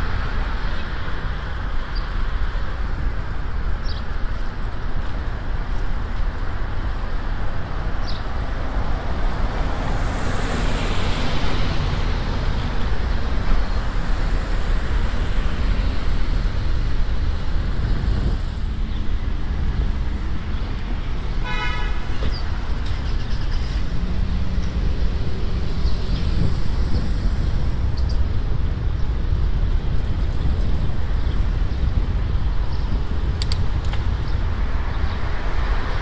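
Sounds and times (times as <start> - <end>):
city street traffic: 0.0 - 36.0
wind rumbling on microphone: 0.0 - 36.0.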